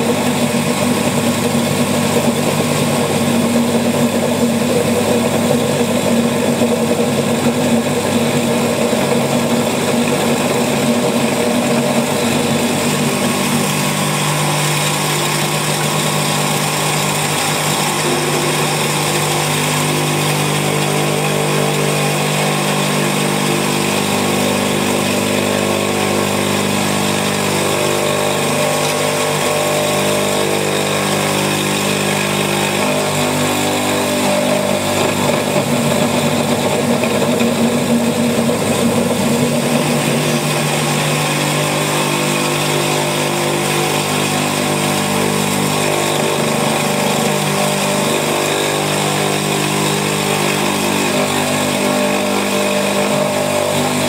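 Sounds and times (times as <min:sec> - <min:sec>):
potter's wheel motor running: 0:00.0 - 0:54.0.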